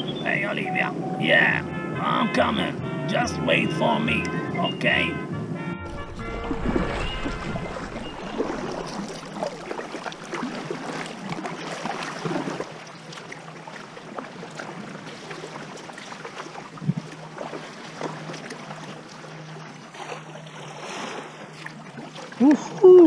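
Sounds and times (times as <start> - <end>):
water splashing around kayak: 0.0 - 23.0.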